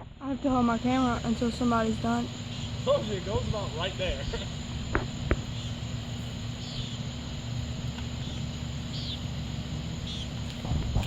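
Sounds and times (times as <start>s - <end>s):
insects chirping: 0.0s - 11.0s
steady low rumble: 0.0s - 11.0s.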